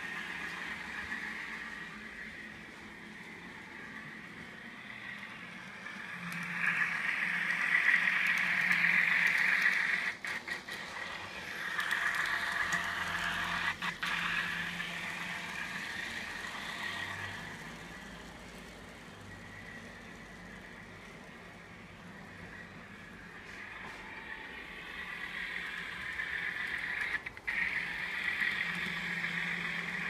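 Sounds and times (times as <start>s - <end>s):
model train diesel sounds: 0.0s - 30.0s.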